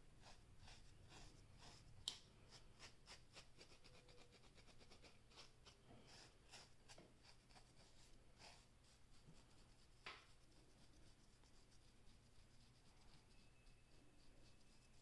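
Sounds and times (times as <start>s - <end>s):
comb scratching scalp: 0.2s - 15.0s.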